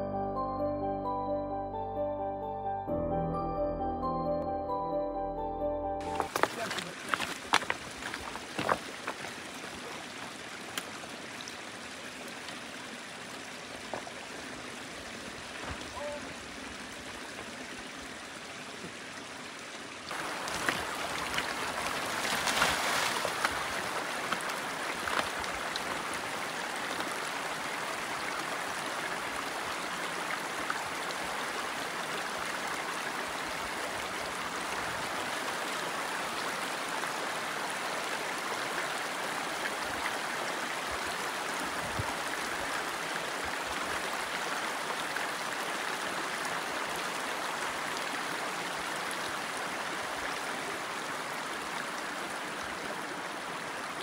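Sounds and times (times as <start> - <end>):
stream running over rocks: 6.0 - 54.0.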